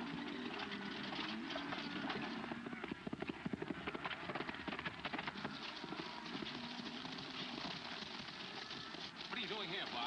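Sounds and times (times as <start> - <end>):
horse hoofbeats clattering: 0.0 - 10.0.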